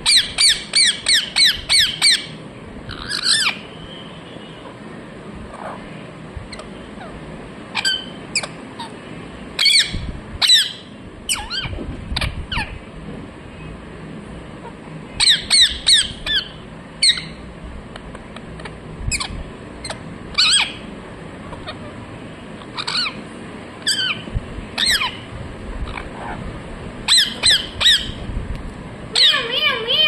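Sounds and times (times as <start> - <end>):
parakeet squawking: 0.0 - 4.9, 5.5 - 5.9, 6.5 - 9.0, 9.6 - 12.8, 14.6 - 17.5, 18.6 - 28.3, 29.1 - 30.0.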